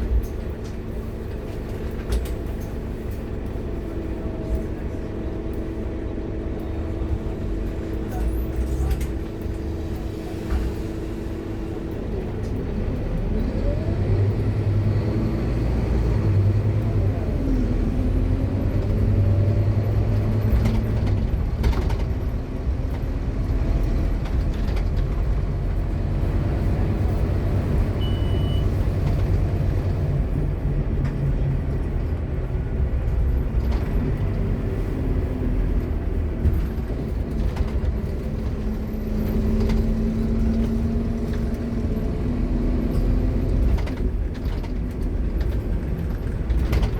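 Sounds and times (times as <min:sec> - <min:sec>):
bus engine drone: 0:00.0 - 0:46.9.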